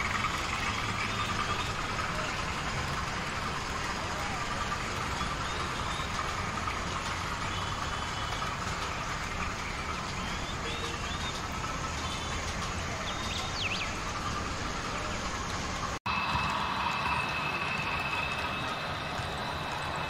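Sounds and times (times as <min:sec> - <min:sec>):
model train motor and wheels rumbling: 0:00.0 - 0:20.0.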